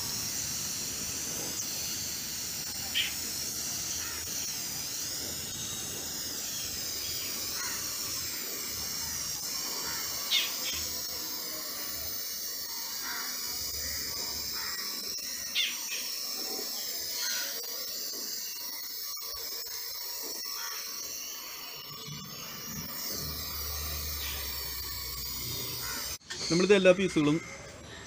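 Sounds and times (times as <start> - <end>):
spray paint can hissing: 0.0 - 27.0
short high squeaks: 3.9 - 27.4.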